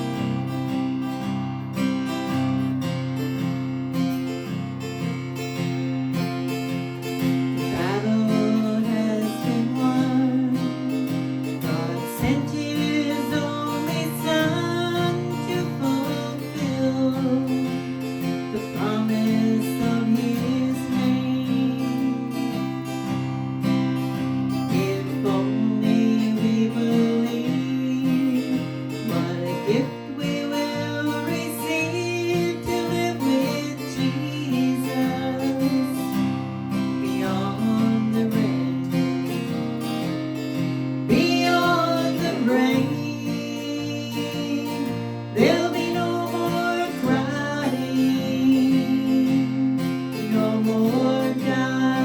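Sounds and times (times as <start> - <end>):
acoustic guitar strumming and picking: 0.0 - 52.0.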